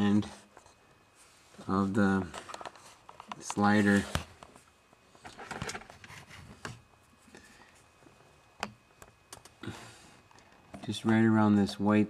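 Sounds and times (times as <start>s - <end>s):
handling noise with rustling: 0.0s - 12.0s.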